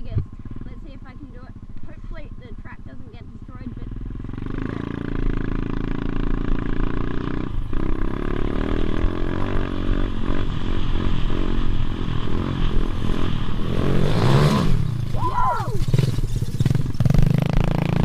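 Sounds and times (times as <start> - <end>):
motorbike engine revving: 0.0 - 18.0.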